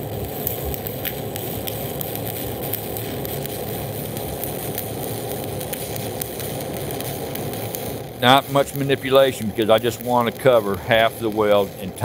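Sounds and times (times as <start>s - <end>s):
welding arc crackling hiss: 0.0s - 12.0s.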